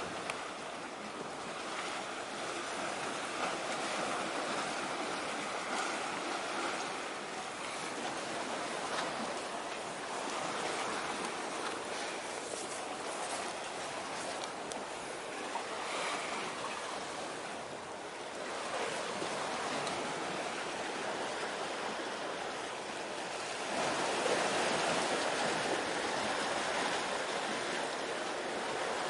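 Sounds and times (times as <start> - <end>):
rushing water: 0.0 - 29.0.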